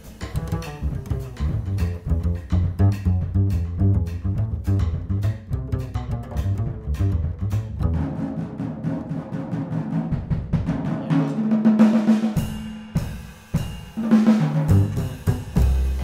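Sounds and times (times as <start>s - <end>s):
jazz drum solo: 0.0s - 16.0s.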